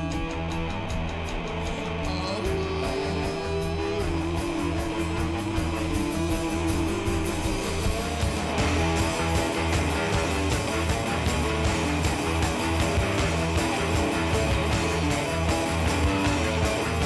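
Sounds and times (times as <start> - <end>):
held lead guitar note: 0.0 - 17.0
rock music with guitars and drums: 0.0 - 17.0.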